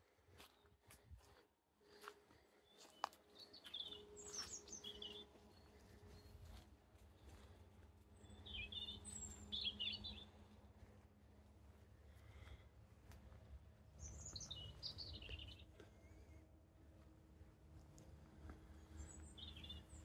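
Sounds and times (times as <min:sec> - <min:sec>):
faint birdsong chirping: 0:00.0 - 0:20.0
low background rumble: 0:03.4 - 0:20.0.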